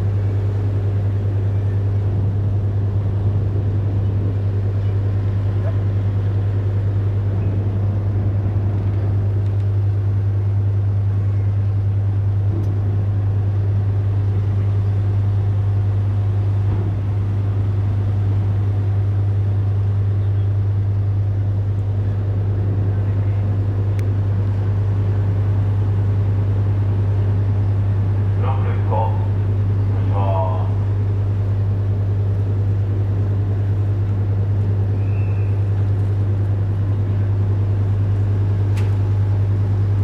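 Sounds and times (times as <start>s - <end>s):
ship engines droning: 0.0s - 40.0s.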